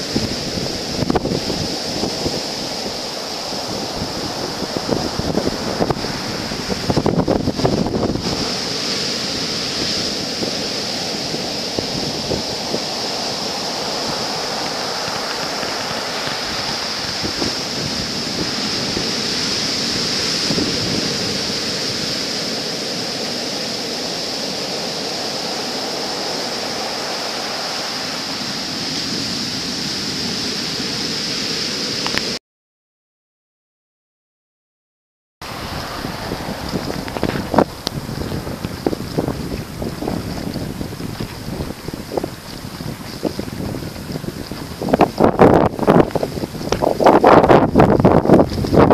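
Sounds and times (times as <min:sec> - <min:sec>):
wind buffeting microphone: 0:00.0 - 0:29.2, 0:35.4 - 0:48.9
ocean surf breaking on sand: 0:00.0 - 0:32.4, 0:35.4 - 0:48.9.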